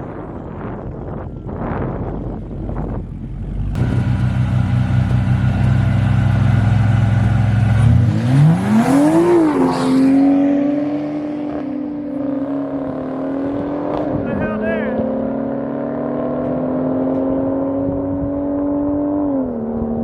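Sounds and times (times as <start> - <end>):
race car engine revving: 3.7 - 20.0.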